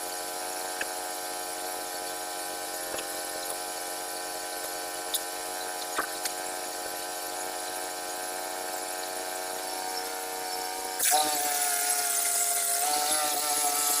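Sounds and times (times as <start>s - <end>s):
small gas engine running: 0.0s - 14.0s.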